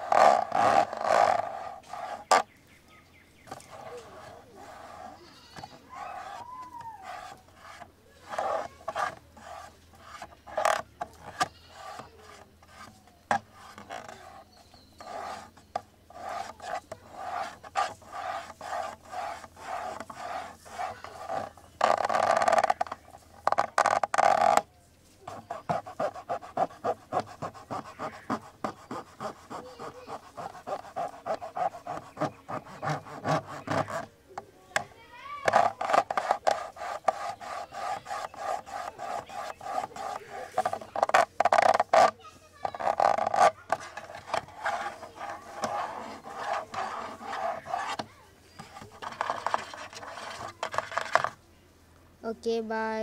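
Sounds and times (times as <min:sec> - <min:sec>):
rough scratching: 0:00.0 - 0:51.4.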